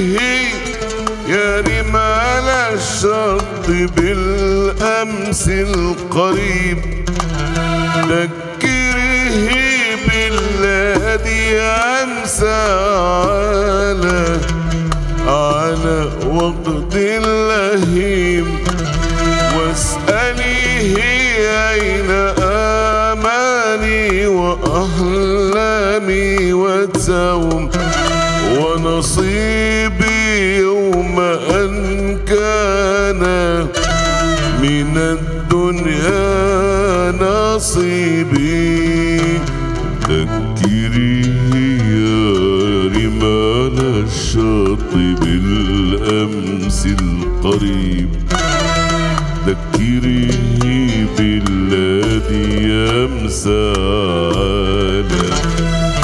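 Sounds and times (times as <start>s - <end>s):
hand drum: 0.0s - 56.0s
keyboard: 0.0s - 56.0s
man singing: 0.0s - 56.0s
oud: 0.0s - 56.0s
violin: 0.0s - 56.0s.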